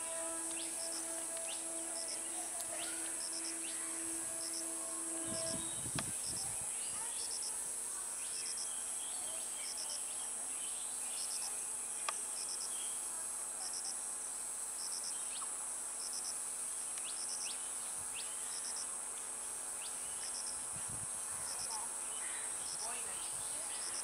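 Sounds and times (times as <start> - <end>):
insect high-pitched buzz: 0.0 - 24.0
insect pulsed chirp: 0.0 - 24.0.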